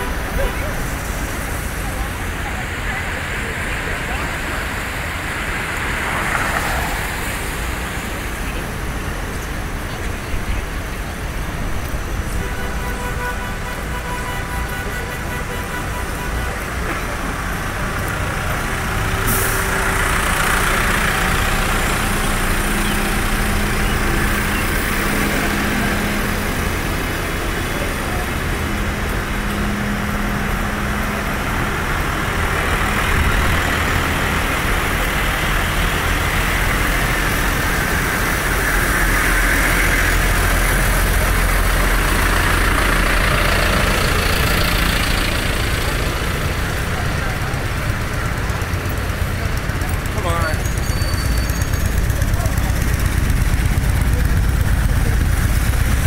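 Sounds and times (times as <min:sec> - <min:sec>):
street traffic: 0:00.0 - 0:56.0
tractor diesel engines: 0:00.0 - 0:56.0.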